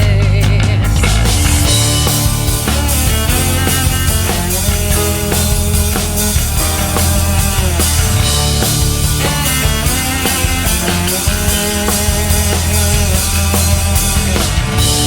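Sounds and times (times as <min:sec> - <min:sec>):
rock music with drums: 0:00.0 - 0:15.0.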